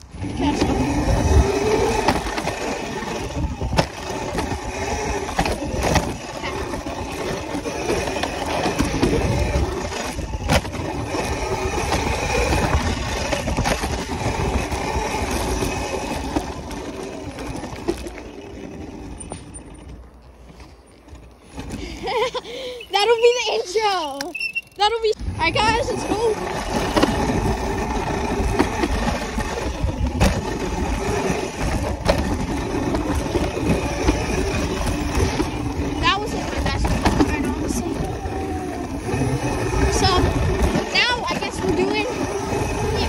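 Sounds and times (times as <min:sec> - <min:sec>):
dirt bike engine rumble: 0:00.0 - 0:43.0.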